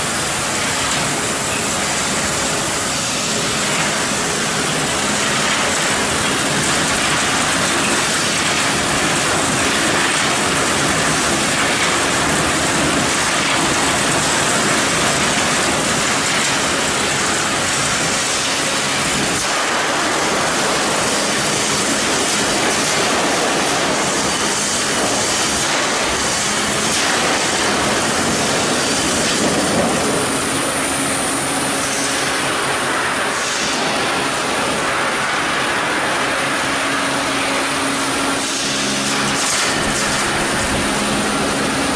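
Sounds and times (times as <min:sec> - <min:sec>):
machinery clattering: 0:00.0 - 0:41.9.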